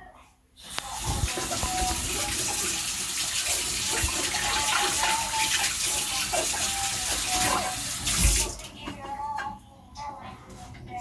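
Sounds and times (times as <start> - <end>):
tap water running into sink: 0.6 - 9.6.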